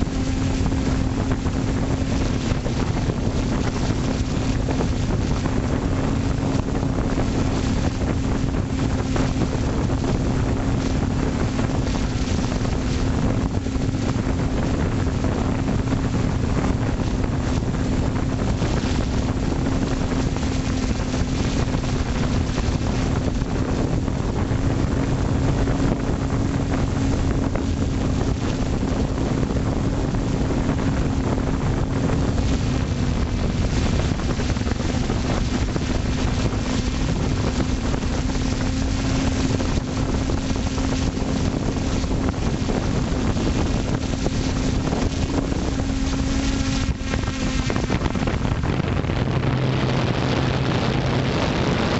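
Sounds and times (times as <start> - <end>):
drone propellers whirring steadily: 0.0 - 51.9
wind rushing over microphone: 0.0 - 51.9.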